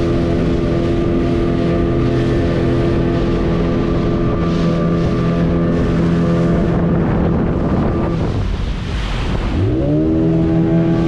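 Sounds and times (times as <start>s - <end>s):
outboard motor running: 0.0s - 11.0s
water rushing past: 0.0s - 11.0s
wind buffeting microphone: 0.0s - 11.0s.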